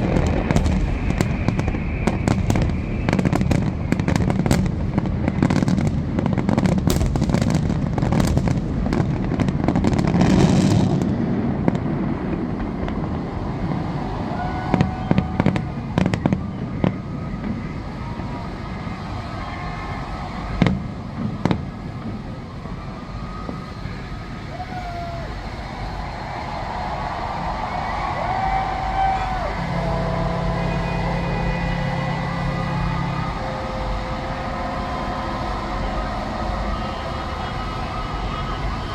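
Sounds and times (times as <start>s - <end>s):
heavy rumble: 0.0s - 23.4s, 26.6s - 38.9s
fireworks booming and crackling: 0.0s - 38.9s.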